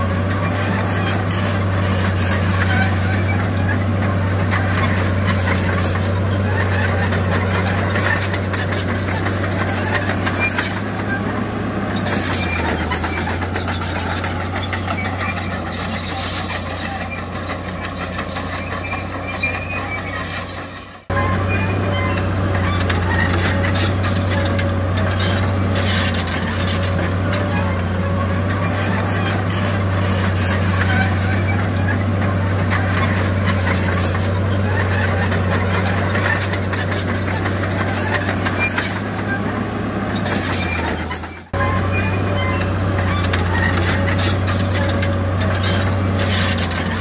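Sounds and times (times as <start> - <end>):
heavy diesel machinery running: 0.0 - 47.0.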